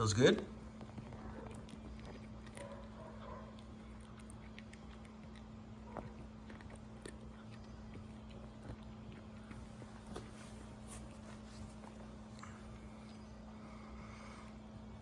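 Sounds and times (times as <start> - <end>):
steady low hum: 0.0 - 15.0
cat eating treats: 0.2 - 13.4.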